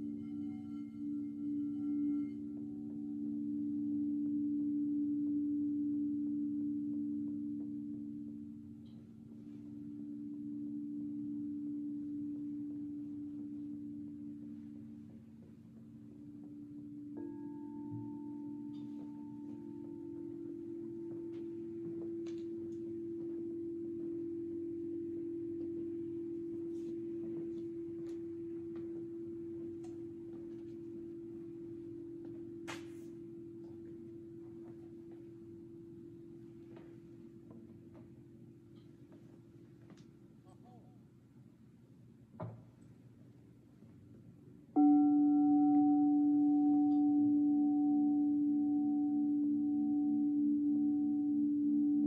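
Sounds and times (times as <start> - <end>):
pure ringing tone: 0.0 - 37.7, 44.8 - 52.0.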